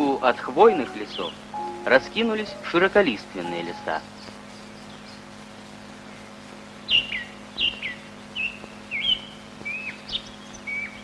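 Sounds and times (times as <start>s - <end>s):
film soundtrack hum and hiss: 0.0s - 11.0s.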